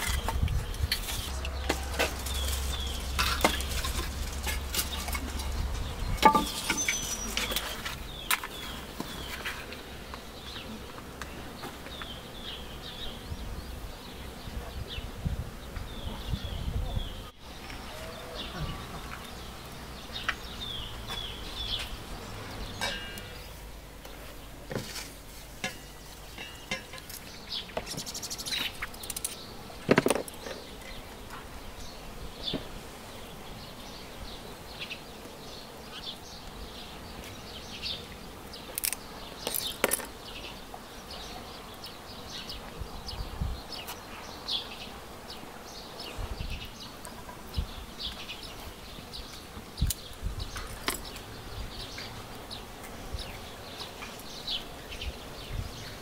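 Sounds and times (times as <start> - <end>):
insects buzzing: 0.0 - 56.0
small birds chirping: 0.0 - 56.0.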